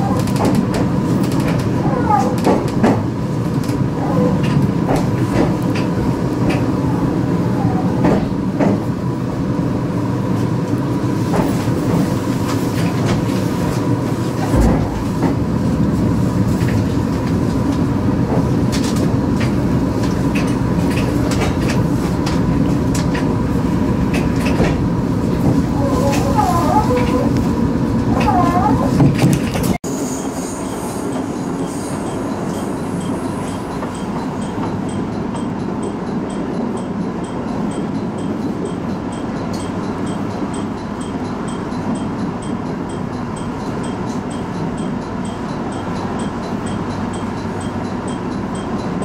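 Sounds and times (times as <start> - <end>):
rail-joint clicks: 0.0 - 9.1, 10.3 - 49.0
train wheels rumbling on rail: 0.0 - 49.0.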